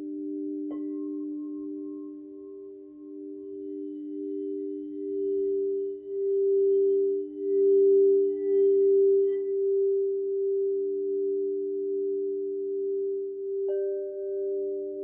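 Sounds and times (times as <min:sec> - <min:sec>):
crystal singing bowls ringing: 0:00.0 - 0:15.0.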